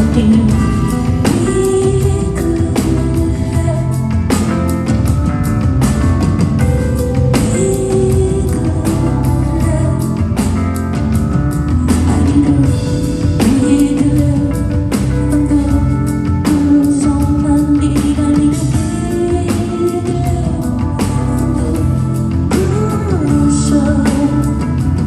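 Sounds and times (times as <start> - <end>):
woman singing: 0.0 - 5.2, 6.9 - 25.0
live rock band playing: 0.0 - 25.0.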